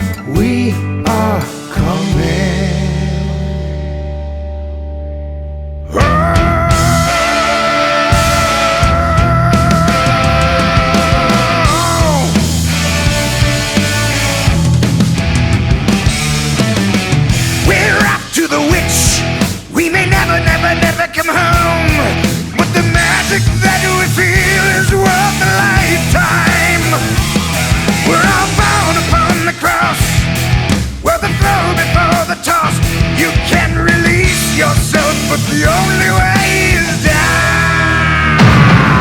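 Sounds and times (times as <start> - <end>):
rock song: 0.0 - 39.0.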